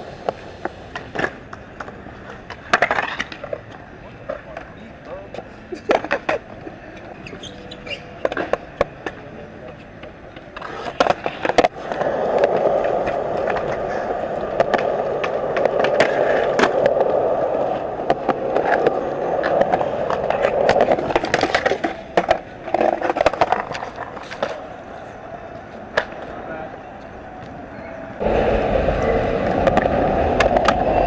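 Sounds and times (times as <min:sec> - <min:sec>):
skateboard clacks: 0:00.0 - 0:27.6, 0:28.2 - 0:31.0
skateboard wheels rolling: 0:00.0 - 0:31.0.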